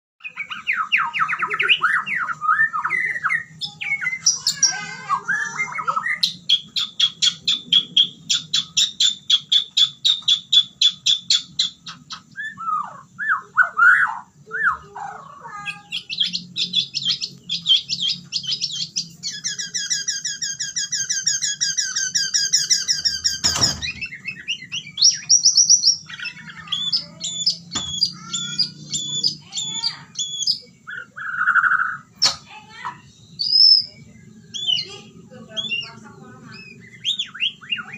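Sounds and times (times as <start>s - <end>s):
songbird singing: 0.2s - 37.9s.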